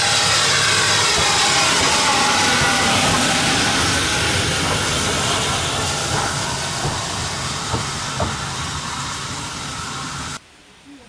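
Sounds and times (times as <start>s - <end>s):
steam hissing loudly: 0.0s - 10.4s.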